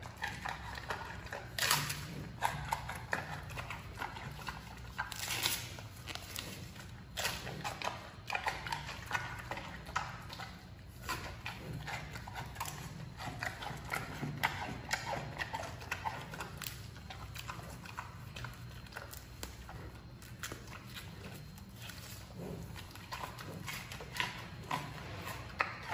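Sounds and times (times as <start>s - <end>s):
panda chewing bamboo: 0.0s - 25.9s.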